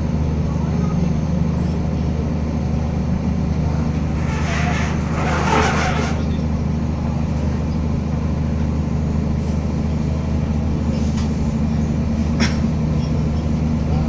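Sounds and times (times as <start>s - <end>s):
diesel railcar engine drone: 0.0s - 14.0s.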